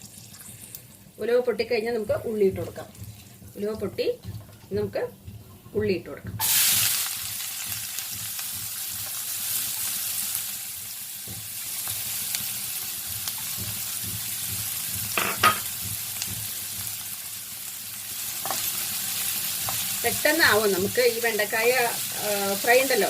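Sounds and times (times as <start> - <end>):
onions sizzling in oil: 0.0 - 4.9, 6.3 - 23.0.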